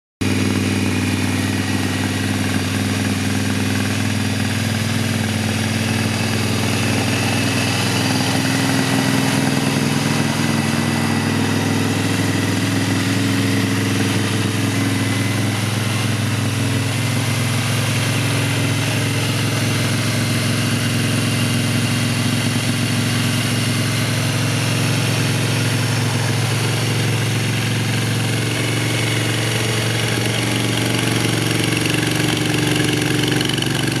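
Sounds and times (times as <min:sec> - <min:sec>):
motorcycle engine idling: 0:00.2 - 0:34.0.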